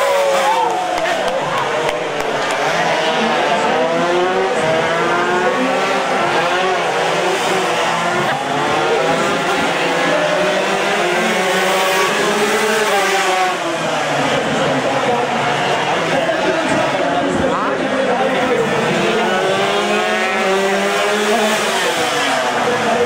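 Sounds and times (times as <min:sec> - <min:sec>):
two-stroke motorcycles racing: 0:00.0 - 0:23.0.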